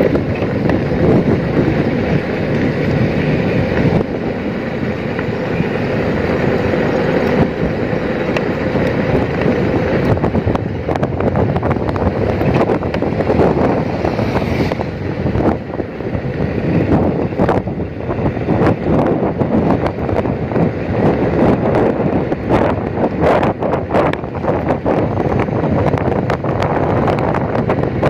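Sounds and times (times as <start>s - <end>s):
vehicle road noise: 0.0s - 28.0s
wind buffeting microphone: 0.0s - 28.0s.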